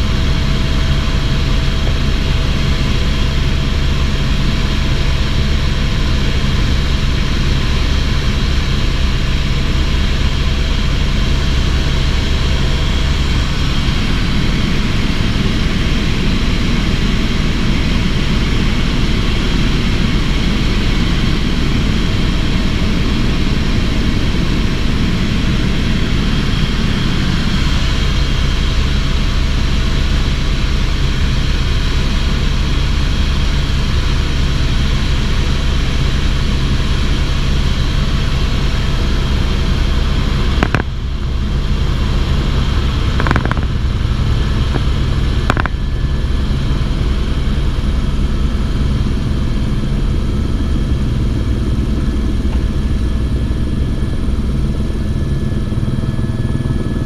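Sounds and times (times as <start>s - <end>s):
deep steady hum: 0.0s - 57.0s
helicopter rotor and engine drone: 0.0s - 57.0s.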